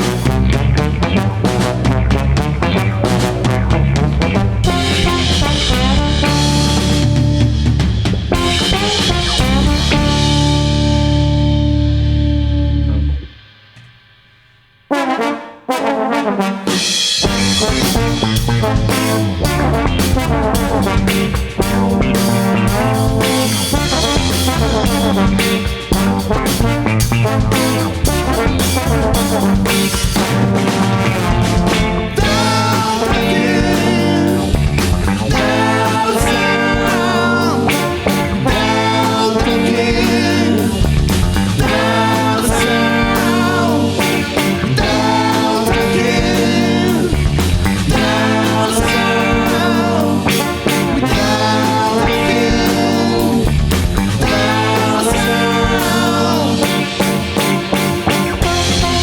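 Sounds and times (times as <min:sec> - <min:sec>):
baritone guitar: 0:00.0 - 0:13.3, 0:17.3 - 0:59.0
trombone playing lead: 0:00.0 - 0:13.4, 0:14.9 - 0:59.0
drum kit: 0:00.0 - 0:59.0.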